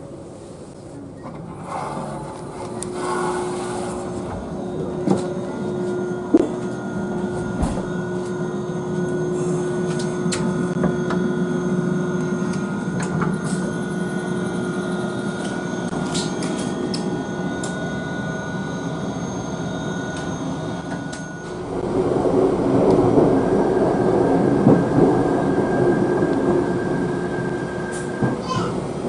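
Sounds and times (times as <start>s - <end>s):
train whining on track: 0.0s - 29.0s.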